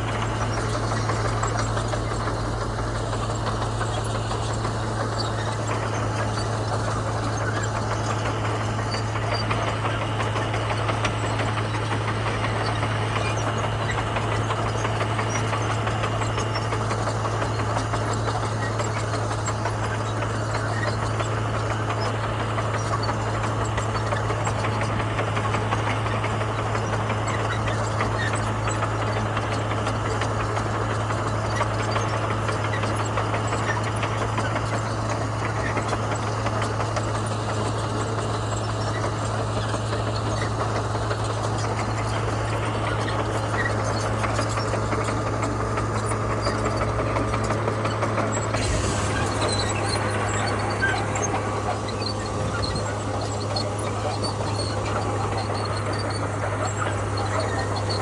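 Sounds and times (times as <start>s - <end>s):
bulldozer diesel engine humming: 0.0s - 58.0s.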